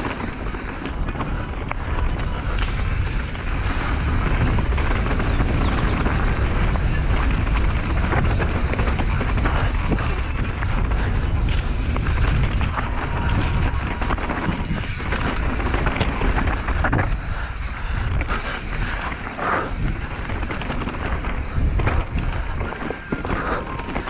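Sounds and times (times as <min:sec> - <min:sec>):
mountain bike clicking and rattling: 0:00.0 - 0:24.0
wind buffeting microphone: 0:00.0 - 0:24.0.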